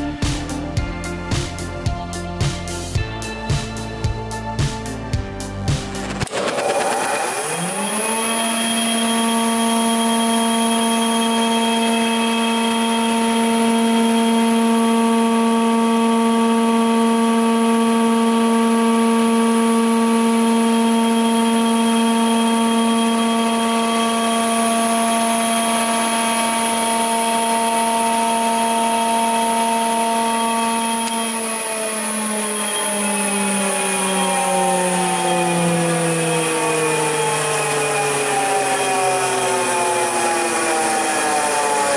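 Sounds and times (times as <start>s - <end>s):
woodworking machine whining: 6.0s - 41.9s.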